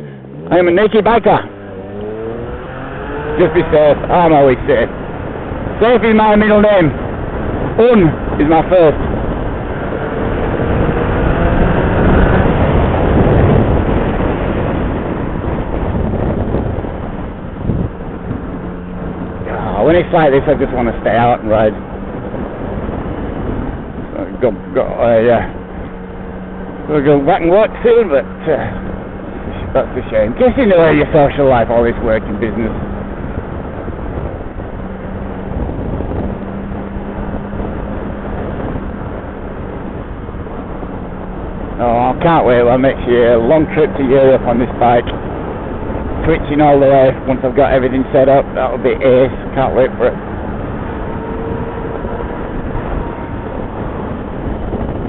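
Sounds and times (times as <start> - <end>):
motorcycle engine hum: 0.0 - 55.0
wind and road noise: 0.0 - 55.0.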